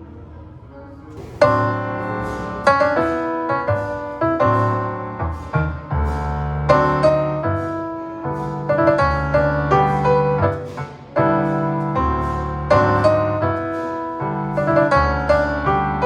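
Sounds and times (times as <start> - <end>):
piano chords and bass notes: 1.1 - 16.0.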